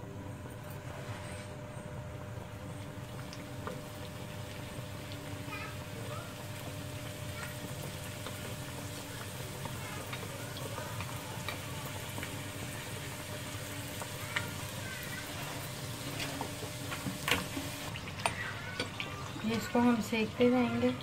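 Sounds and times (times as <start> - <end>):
dough sizzling in oil: 2.2 - 21.0.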